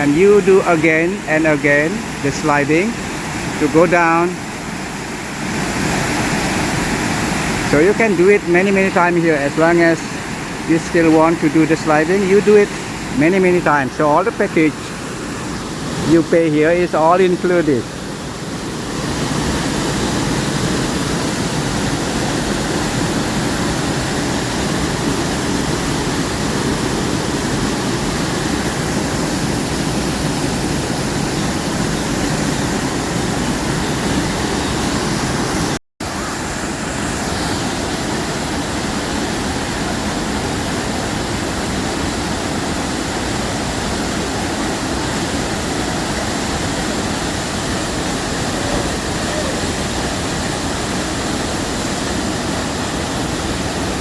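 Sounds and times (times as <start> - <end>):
waterfall roar: 0.0 - 54.0.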